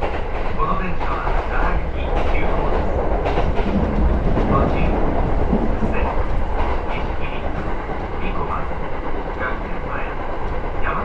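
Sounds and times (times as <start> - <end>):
faint rail clacks: 0.0 - 11.0
low rumble of train wheels: 0.0 - 11.0.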